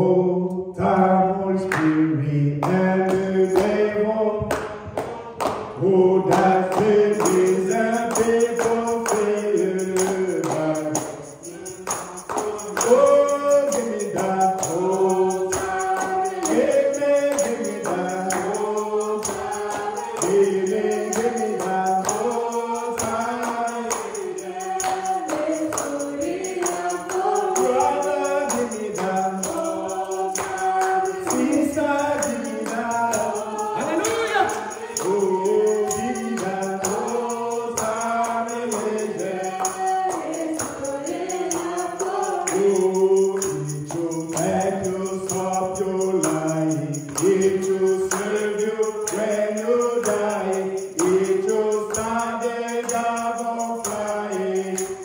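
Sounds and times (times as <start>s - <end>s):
congregation singing gospel song: 0.0s - 55.0s
percussion beat: 0.8s - 55.0s.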